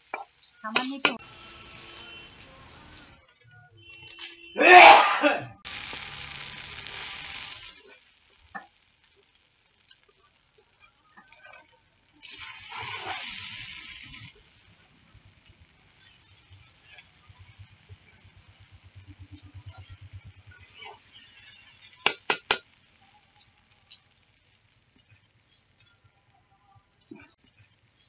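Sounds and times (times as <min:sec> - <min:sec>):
spatula stirring in a pan: 0:00.0 - 0:03.4, 0:05.7 - 0:28.0
noodles sizzling in a wok: 0:00.0 - 0:28.0.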